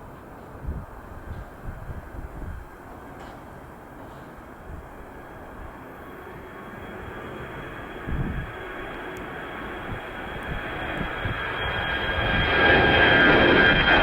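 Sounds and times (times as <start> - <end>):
jet airliner engine whine: 0.0 - 14.0.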